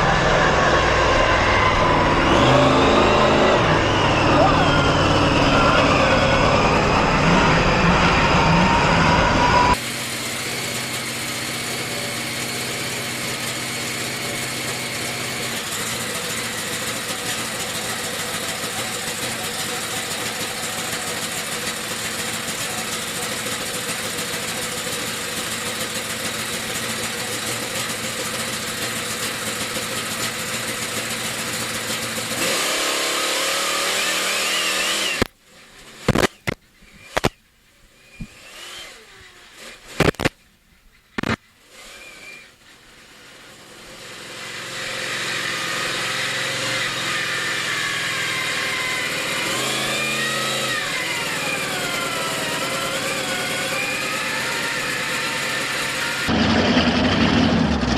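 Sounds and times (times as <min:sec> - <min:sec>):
monster truck engine running: 0:00.0 - 0:37.4, 0:43.1 - 0:57.9.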